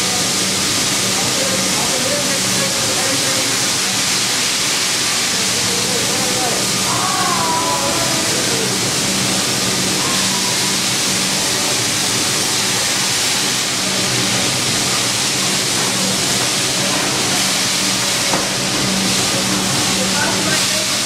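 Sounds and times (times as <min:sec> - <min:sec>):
steam hissing loudly: 0:00.0 - 0:21.0.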